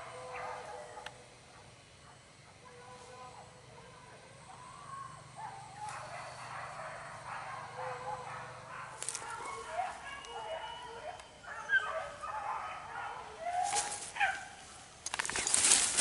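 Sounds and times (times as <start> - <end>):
dogs barking and yelping: 0.0 - 14.6.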